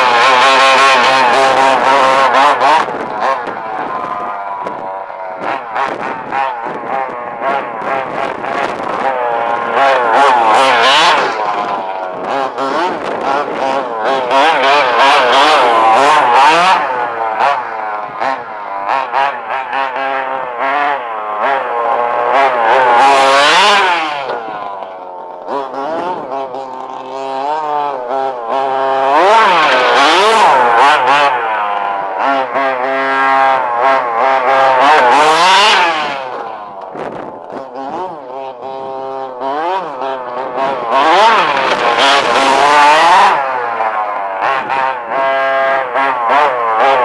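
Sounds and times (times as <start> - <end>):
small engine revving: 0.0 - 47.0.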